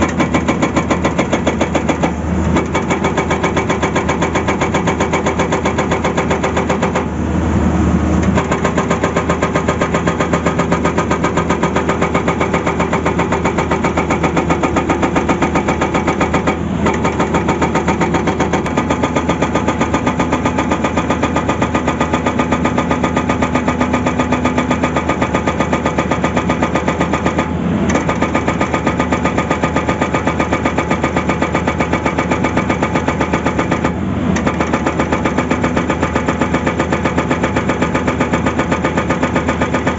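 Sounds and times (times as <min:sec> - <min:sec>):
hydraulic rock breaker hammering: 0:00.0 - 0:07.2, 0:08.2 - 0:39.9
excavator engine running: 0:00.0 - 0:39.9.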